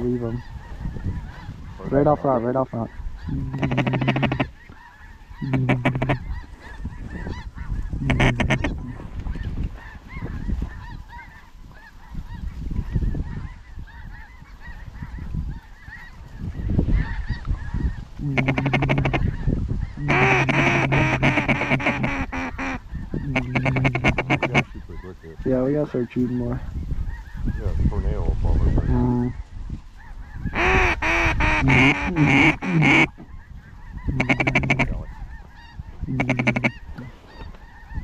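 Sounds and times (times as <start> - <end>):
flock chatter: 0.0 - 38.0
waterfowl honking quacks: 0.0 - 38.0
wind rumble on microphone: 0.0 - 38.0.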